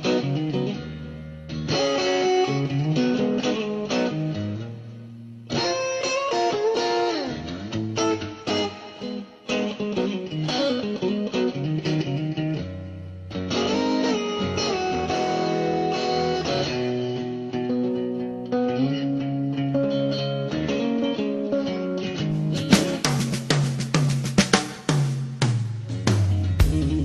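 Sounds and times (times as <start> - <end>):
electric guitar music: 0.0 - 27.0.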